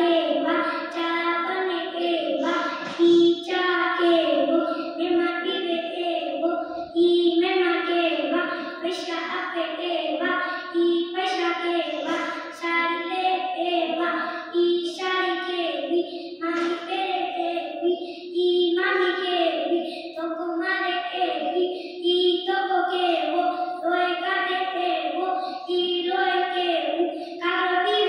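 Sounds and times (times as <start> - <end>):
boy chanting into a microphone: 0.0 - 28.0.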